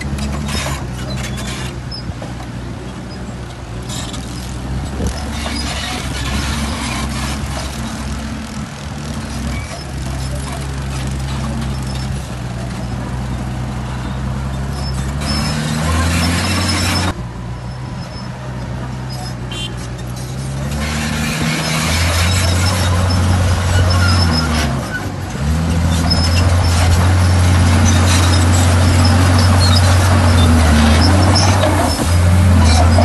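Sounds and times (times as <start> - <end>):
high squeaks: 0.0 - 2.2, 3.0 - 12.9, 13.8 - 18.3, 19.1 - 33.0
bulldozer diesel engine revving: 0.0 - 33.0.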